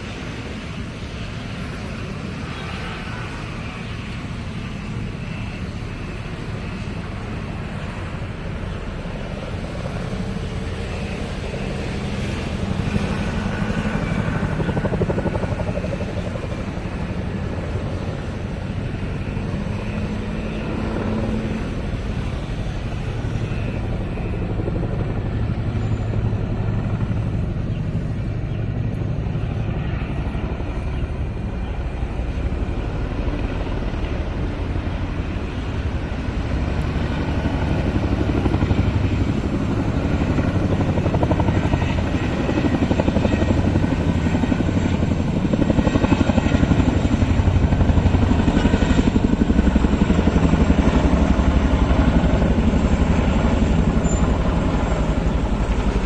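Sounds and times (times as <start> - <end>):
military aircraft flying over: 0.0 - 56.0.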